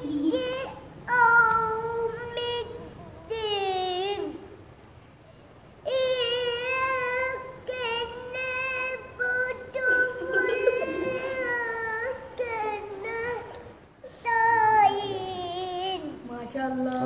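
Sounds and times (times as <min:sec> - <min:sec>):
boy chanting melodically: 0:00.0 - 0:04.5, 0:05.9 - 0:16.2.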